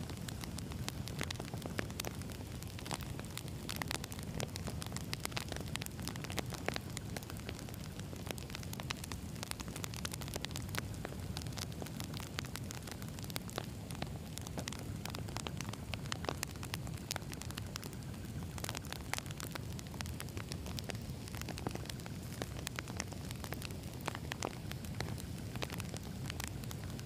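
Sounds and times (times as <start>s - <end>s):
firewood crackling and popping: 0.0s - 27.0s
low rumble of flames: 0.0s - 27.0s.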